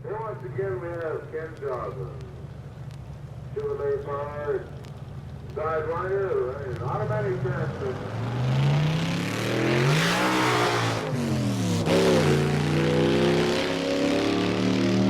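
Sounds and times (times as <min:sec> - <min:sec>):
dragster engine revving: 0:00.1 - 0:15.0.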